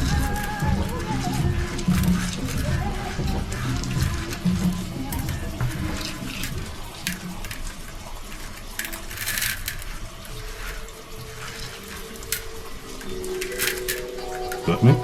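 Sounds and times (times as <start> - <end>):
dishes clinking and rattling: 0.0 - 15.0
water splashing: 0.0 - 15.0.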